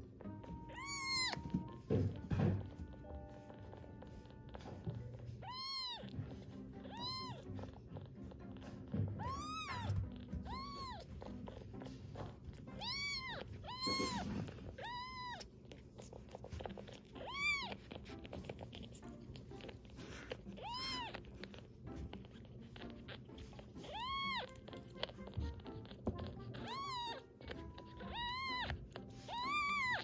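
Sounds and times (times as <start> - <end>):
kitten mewing: 0.2 - 30.0.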